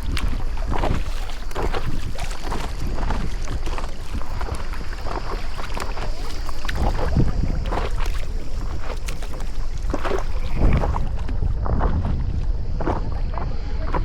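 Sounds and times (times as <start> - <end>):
water splashing around paddleboard: 0.0 - 14.0
wind rumbling on microphone: 0.0 - 14.0.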